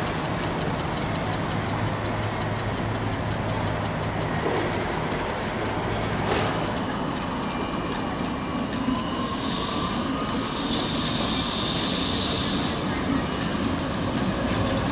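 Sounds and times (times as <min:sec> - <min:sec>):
electric tram humming: 0:00.0 - 0:14.9
tram wheels on rails: 0:00.0 - 0:14.9.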